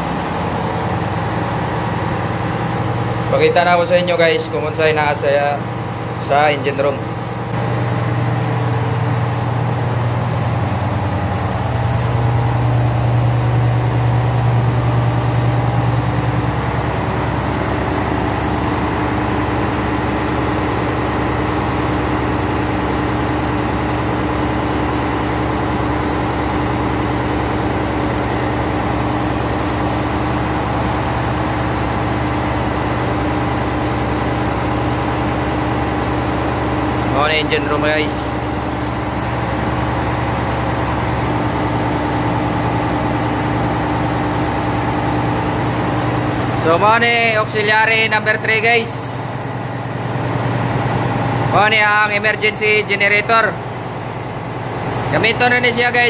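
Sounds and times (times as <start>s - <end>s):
deep hum of diesel generators: 0.0s - 56.0s.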